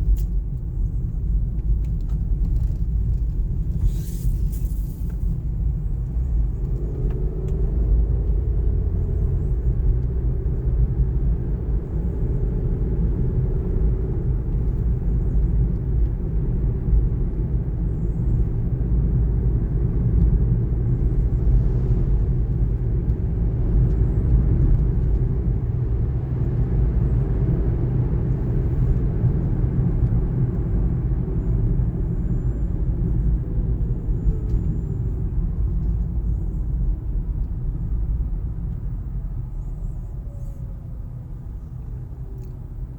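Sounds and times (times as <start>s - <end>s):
car road and drivetrain rumble: 0.0s - 42.9s.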